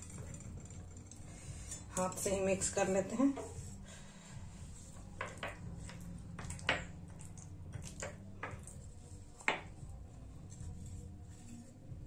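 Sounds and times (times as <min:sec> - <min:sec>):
low steady hum: 0:00.0 - 0:12.0
soft squishing: 0:00.1 - 0:12.0.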